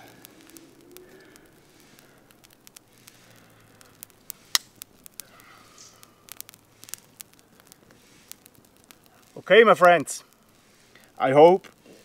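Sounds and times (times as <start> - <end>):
grass fire crackling and popping: 0.0 - 12.0.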